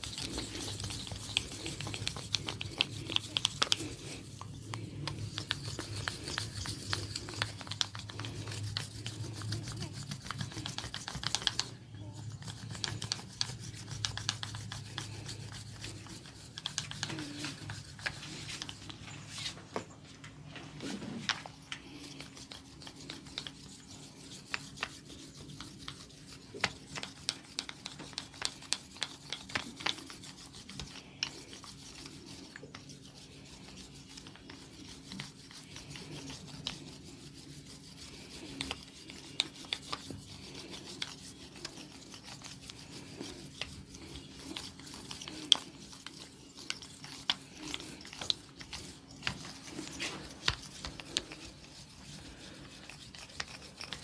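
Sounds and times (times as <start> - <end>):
hands rubbing oiled hair: 0.0 - 54.0.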